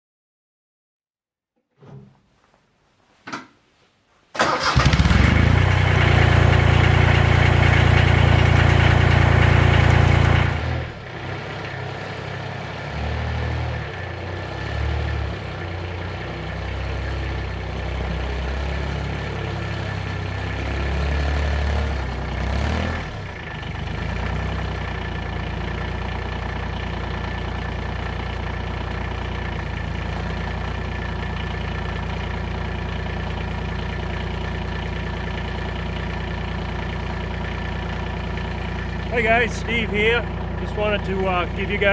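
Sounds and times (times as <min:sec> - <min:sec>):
tractor engine starting and idling: 0:04.3 - 0:41.9.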